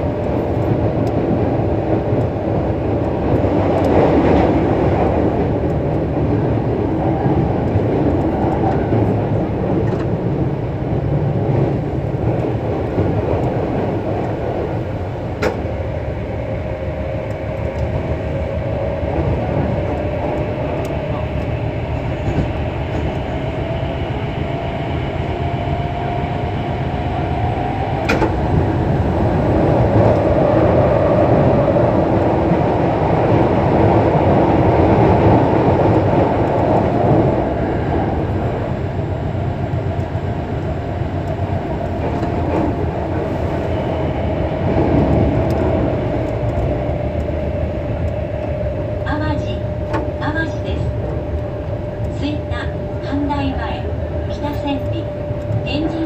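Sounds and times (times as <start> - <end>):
train motor humming: 0.0 - 56.0
train wheels rumbling on rail: 0.0 - 56.0.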